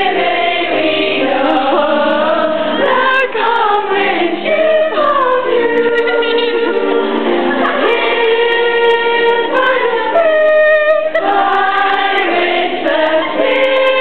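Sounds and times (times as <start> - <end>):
choir singing long notes: 0.0 - 14.0.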